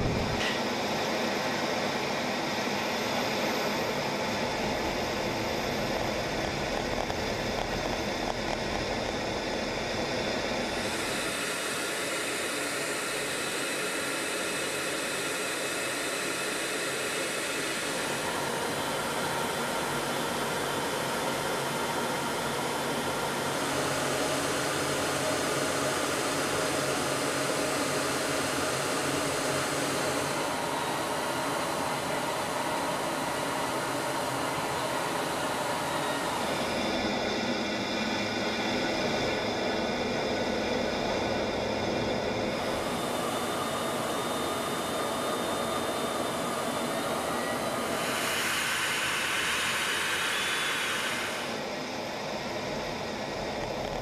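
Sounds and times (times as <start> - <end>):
jet engine and airflow roar: 0.0 - 54.0.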